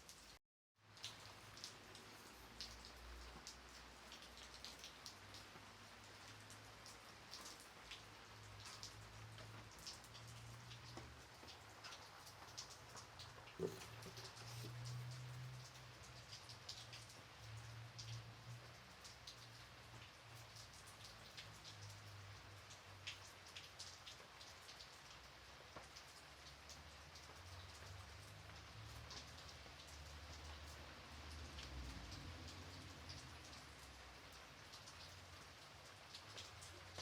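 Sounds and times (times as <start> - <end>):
gentle rain hiss: 0.0 - 37.0
raindrops ticking: 0.0 - 37.0.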